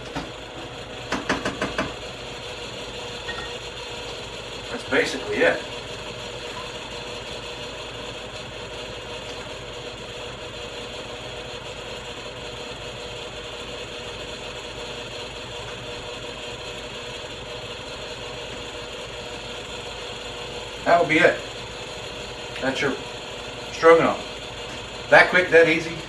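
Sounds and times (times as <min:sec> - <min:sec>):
exhaust fan running: 0:00.0 - 0:26.0.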